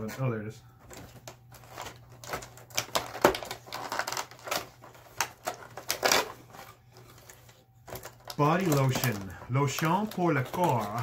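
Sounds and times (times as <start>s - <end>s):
card crackling and rustling: 0.0s - 11.0s.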